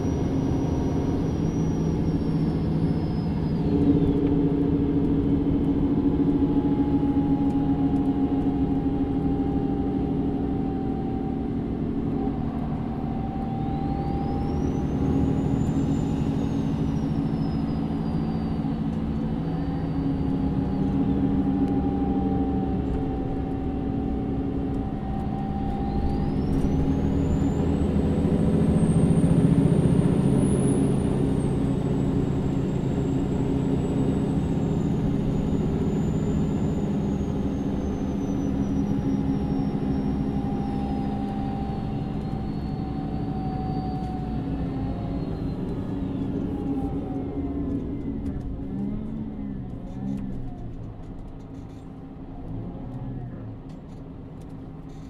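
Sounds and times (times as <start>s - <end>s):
bus engine running: 0.0s - 55.0s.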